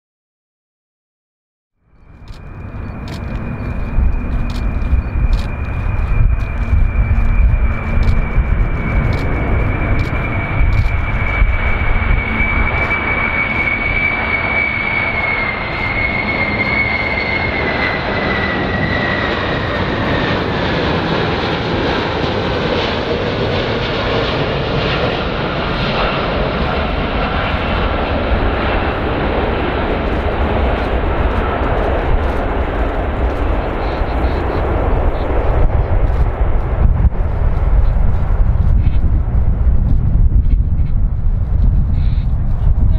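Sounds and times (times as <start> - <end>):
jet airliner rumble and whine: 1.8 - 42.9.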